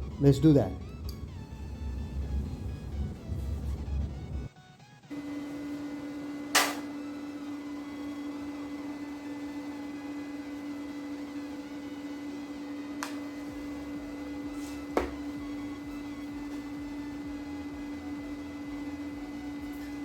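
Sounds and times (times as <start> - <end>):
welder electrical hum: 0.0 - 20.0.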